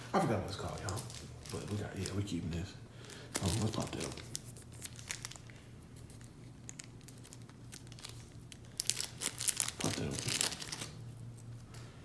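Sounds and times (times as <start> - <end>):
plastic wrapper crinkling: 0.3 - 11.9.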